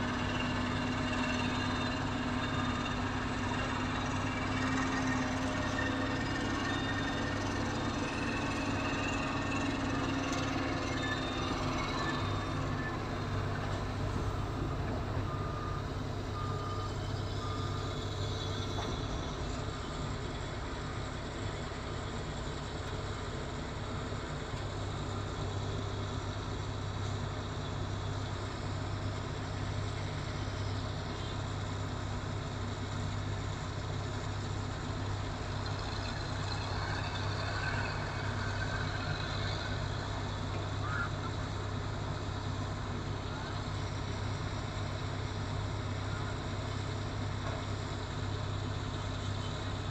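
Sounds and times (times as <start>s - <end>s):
large engine droning: 0.0s - 49.9s.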